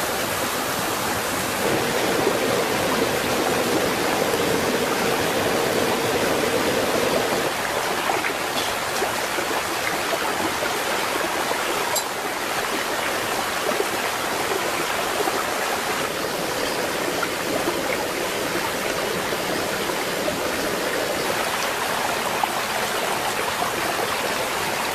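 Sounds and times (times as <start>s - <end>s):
stream water over rocks: 0.0s - 24.9s.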